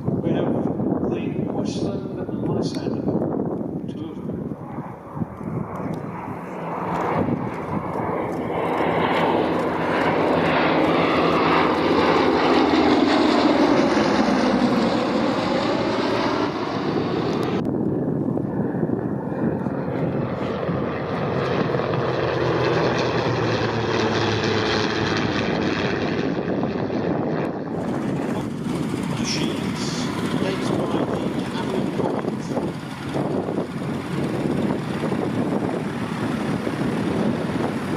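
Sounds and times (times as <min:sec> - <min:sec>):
propeller planes droning past: 0:00.0 - 0:37.9.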